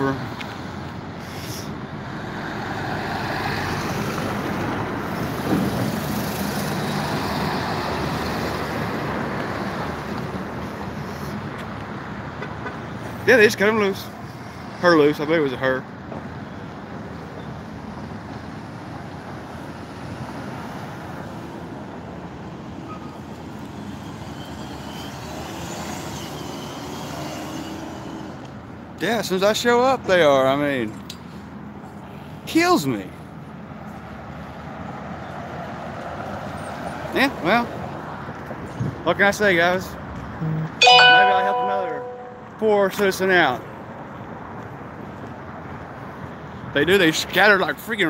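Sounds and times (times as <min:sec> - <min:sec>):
street traffic driving past: 0:00.0 - 0:48.0.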